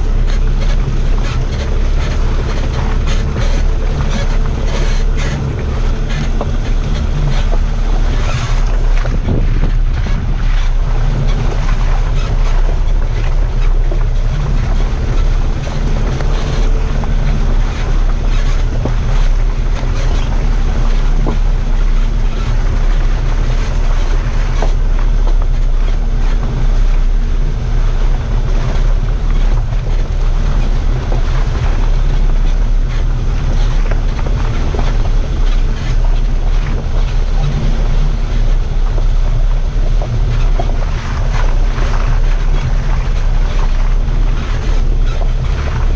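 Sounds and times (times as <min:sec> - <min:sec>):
vehicle low rumble: 0:00.0 - 0:45.9
wind buffeting microphone: 0:00.0 - 0:45.9.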